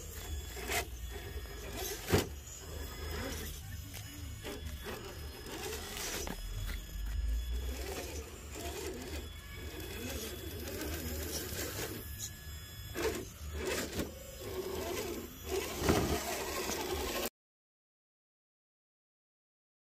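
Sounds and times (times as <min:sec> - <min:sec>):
small electric motor whirring: 0:00.0 - 0:17.3.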